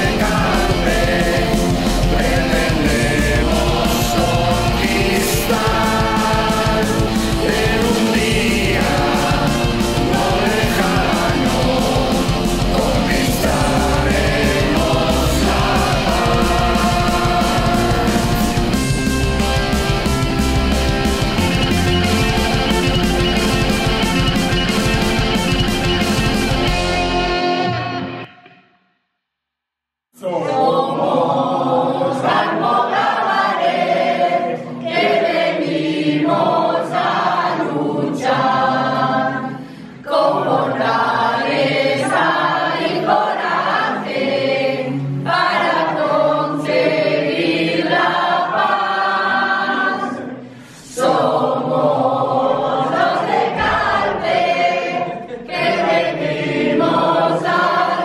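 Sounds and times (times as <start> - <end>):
men and women singing together: 0.0 - 20.2, 30.2 - 58.0.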